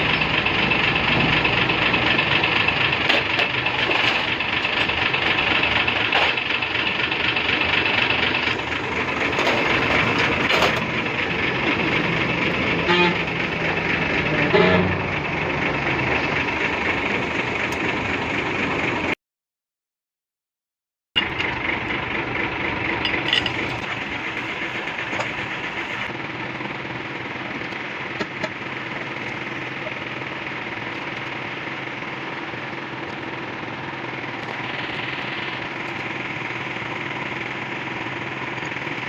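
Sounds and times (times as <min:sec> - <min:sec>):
truck engine running: 0:00.0 - 0:19.2, 0:21.2 - 0:39.0.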